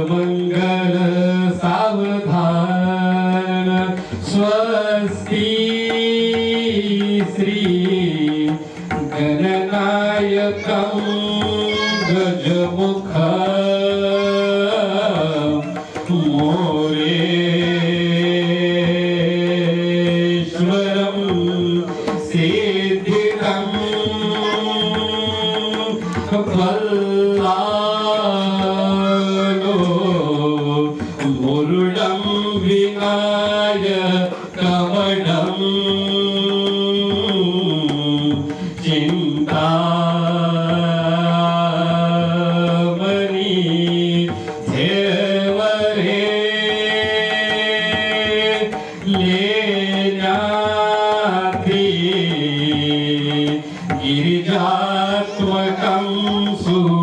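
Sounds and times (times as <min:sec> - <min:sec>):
man singing into microphone: 0:00.0 - 0:57.0
tabla: 0:00.0 - 0:57.0.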